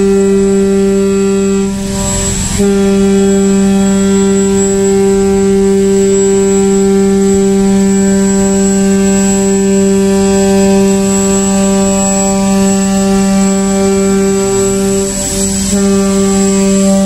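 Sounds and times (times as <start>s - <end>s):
rush of noise: 0.0s - 17.0s
ship's horn blast: 0.0s - 17.0s.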